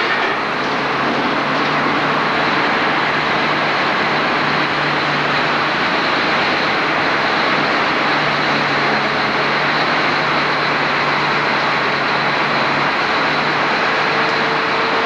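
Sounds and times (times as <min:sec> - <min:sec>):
heavy equipment engine drone: 0:00.0 - 0:15.0.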